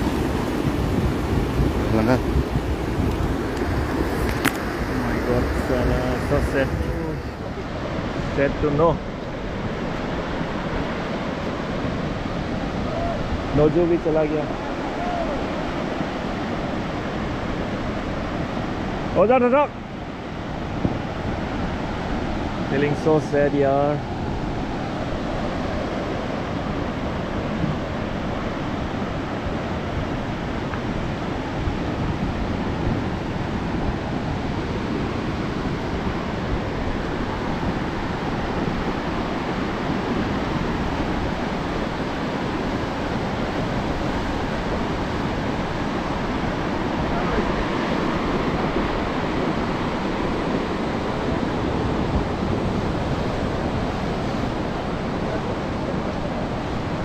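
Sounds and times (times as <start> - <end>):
river rushing in flood: 0.0 - 57.0.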